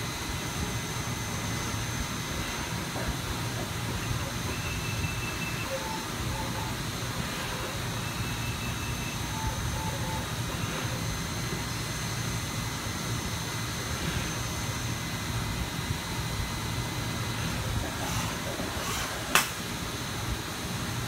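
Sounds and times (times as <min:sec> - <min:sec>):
cnc machine humming with whine: 0:00.0 - 0:21.0.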